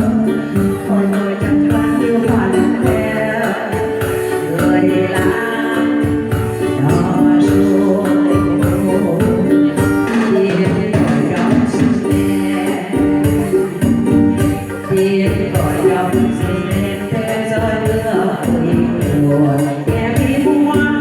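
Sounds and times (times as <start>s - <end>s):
song with steady beat: 0.0s - 21.0s.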